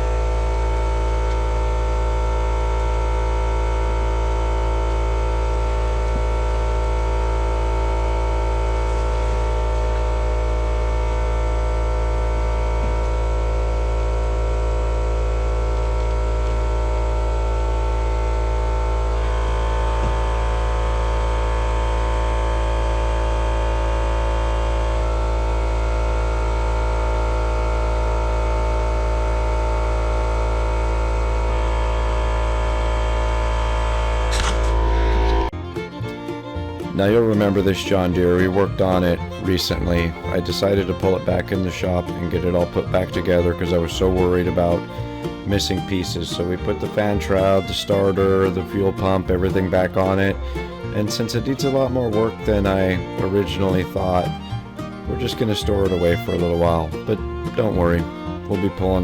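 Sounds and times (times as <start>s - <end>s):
loud low hum: 0.0s - 59.0s
steady tones: 0.0s - 59.0s.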